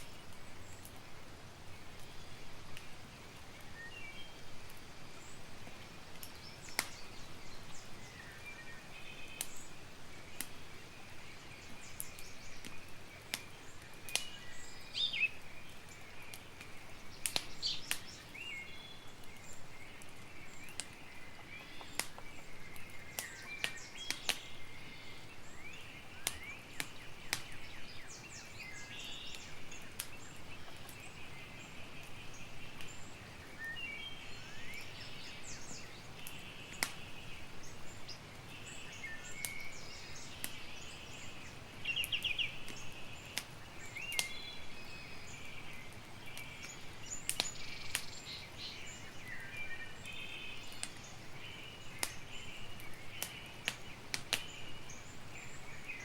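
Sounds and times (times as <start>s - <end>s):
campfire crackling: 0.0s - 56.0s
birds chirping: 1.7s - 56.0s.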